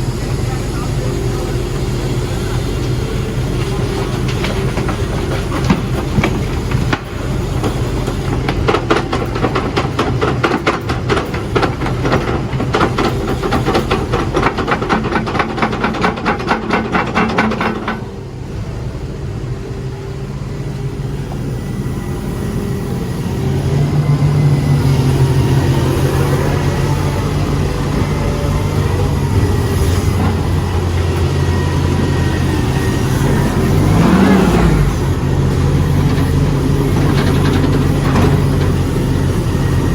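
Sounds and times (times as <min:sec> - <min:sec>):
diesel engine running: 0:00.0 - 0:39.9
excavator clattering: 0:00.0 - 0:39.9.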